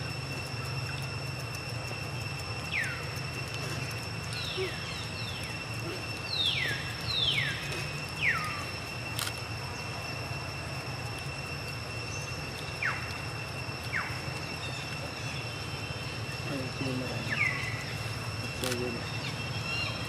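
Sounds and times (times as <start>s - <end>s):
steady high-pitched drone: 0.0s - 20.0s.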